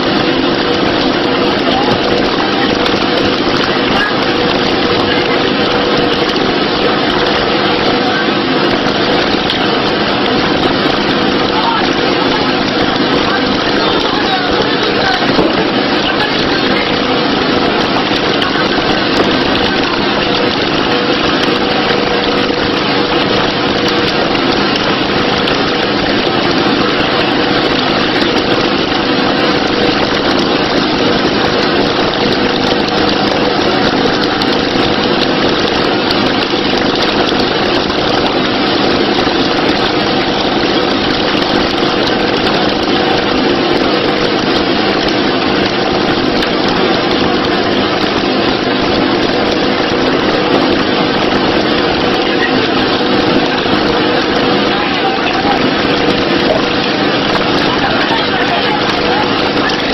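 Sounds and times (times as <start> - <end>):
small boat motor running: 0.0 - 59.9.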